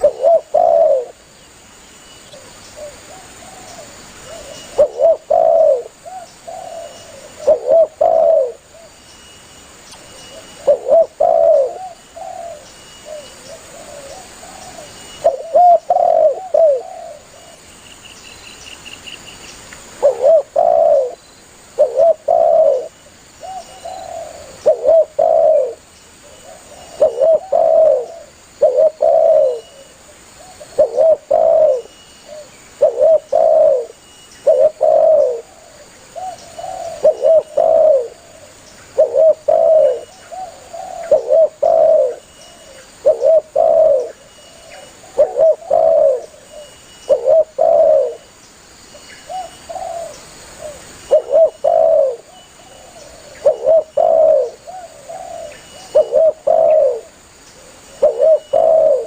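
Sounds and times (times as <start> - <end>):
dove cooing: 0.0 - 1.3, 2.3 - 9.0, 10.3 - 17.6, 20.0 - 48.3, 49.2 - 59.0.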